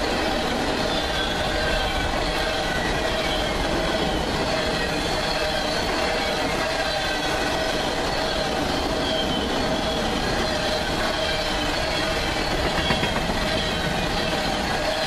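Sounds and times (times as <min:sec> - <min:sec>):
high wheel squeal: 0:00.0 - 0:15.0
train wheels rumbling on rails: 0:00.0 - 0:15.0.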